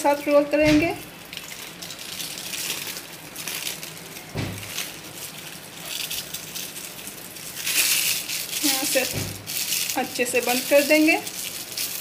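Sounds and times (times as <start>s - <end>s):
paper rustling and crinkling: 1.3s - 12.0s.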